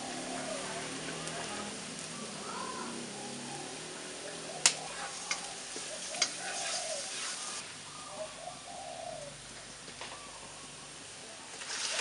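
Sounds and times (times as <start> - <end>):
garlic sizzling in hot oil: 0.0 - 7.8, 9.8 - 12.0.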